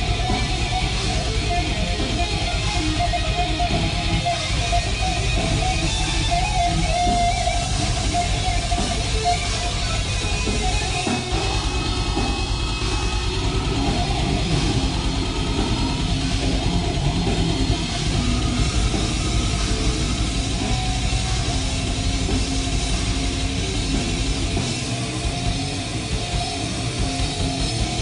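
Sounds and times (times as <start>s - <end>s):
death metal band playing live: 0.0s - 28.0s
loud dense electric guitar: 0.0s - 28.0s.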